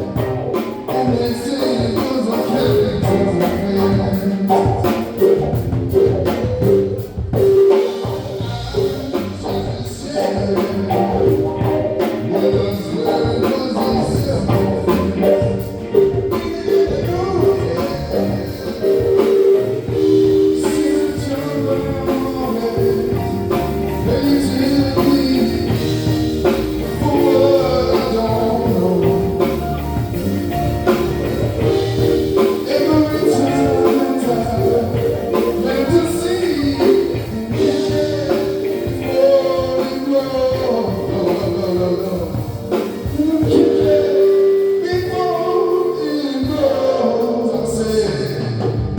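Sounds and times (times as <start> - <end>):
drums: 0.0 - 48.9
guitar: 0.0 - 48.9
person singing: 0.0 - 48.9.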